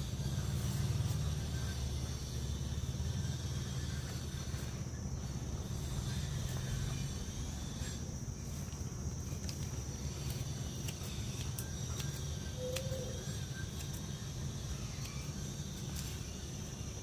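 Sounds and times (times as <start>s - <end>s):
high insect-like drone: 0.0s - 17.0s.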